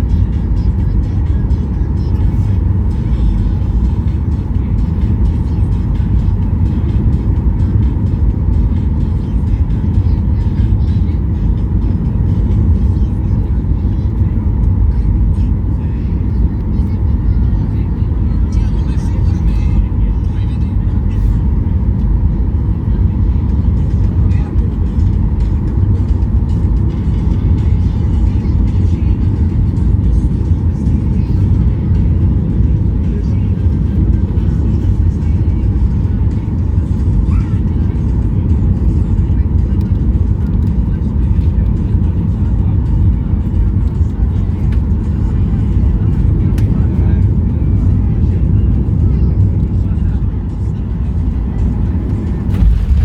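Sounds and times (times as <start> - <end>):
airplane cabin rumble: 0.0 - 53.0
faint music: 0.0 - 53.0.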